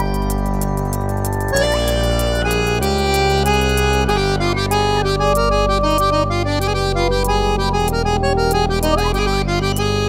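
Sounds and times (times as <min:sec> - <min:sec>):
accordion melody: 0:00.0 - 0:10.0
electronic beat of high ticks: 0:00.0 - 0:10.0
steady low drone: 0:00.0 - 0:10.0.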